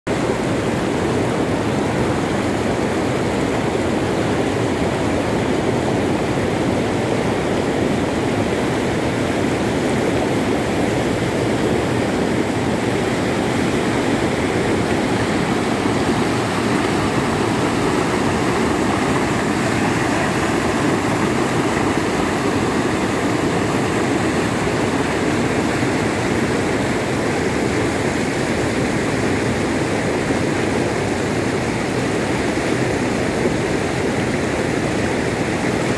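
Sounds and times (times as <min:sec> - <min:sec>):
floodwater rushing over a dam: 0:00.1 - 0:35.9.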